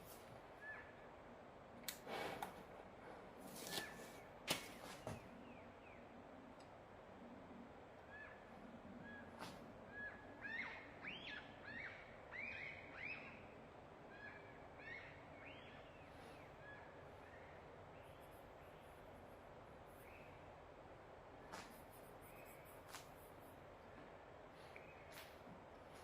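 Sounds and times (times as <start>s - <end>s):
birds chirping faintly: 0.0s - 26.0s
soft steady hiss: 0.0s - 26.0s.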